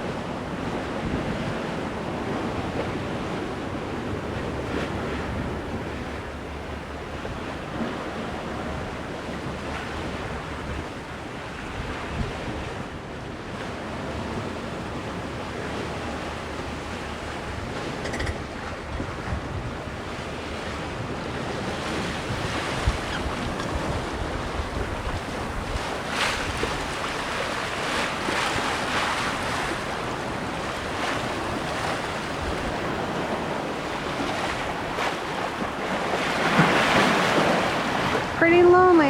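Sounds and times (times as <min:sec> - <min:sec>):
water washing past boat hull: 0:00.0 - 0:39.0
wind buffeting microphone: 0:00.0 - 0:39.0.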